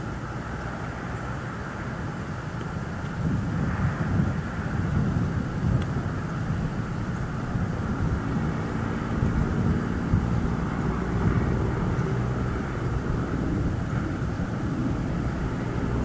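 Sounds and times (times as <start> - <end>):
distant engine drone: 0.0 - 16.0
wind on microphone: 0.0 - 16.0.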